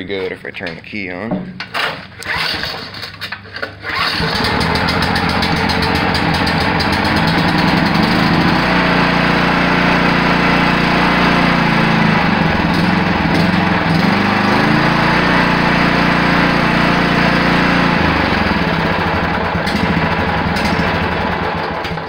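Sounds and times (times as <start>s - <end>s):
lawn mower engine running: 1.4s - 22.0s.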